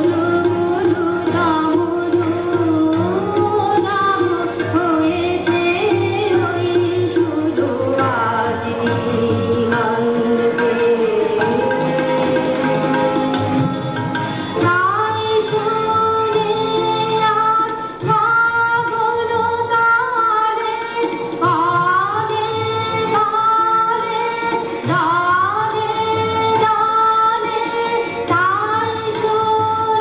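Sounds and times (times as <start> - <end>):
woman singing: 0.0 - 13.7, 14.6 - 30.0
tabla: 0.0 - 30.0.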